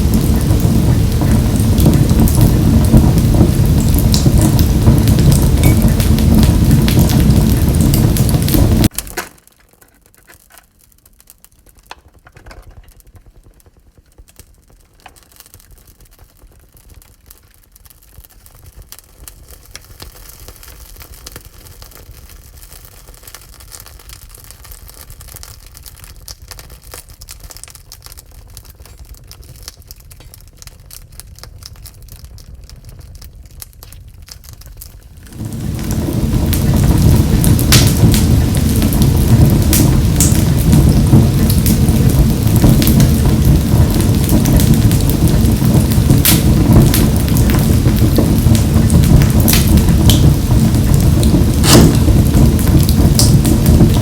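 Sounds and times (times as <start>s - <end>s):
wood fire crackling in a stove: 0.0s - 54.0s.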